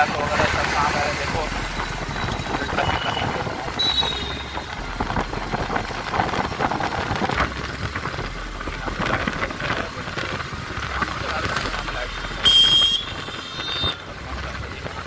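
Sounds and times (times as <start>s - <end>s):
wind buffeting microphone: 0.0s - 12.3s
motorcycle engine: 0.0s - 15.0s.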